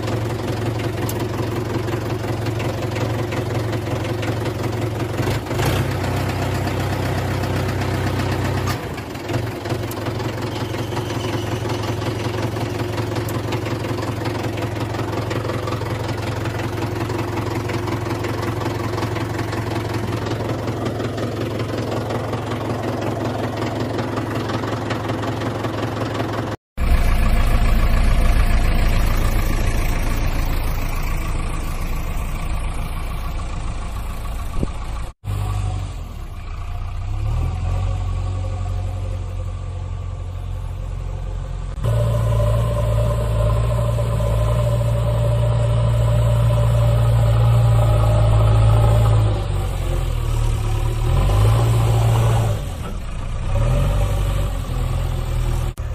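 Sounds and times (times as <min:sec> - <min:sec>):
engine drone: 0:00.0 - 0:55.9.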